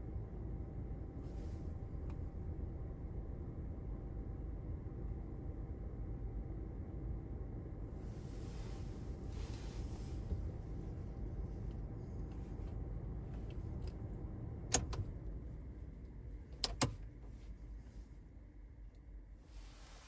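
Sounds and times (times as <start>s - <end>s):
car engine idling: 0.3s - 19.1s.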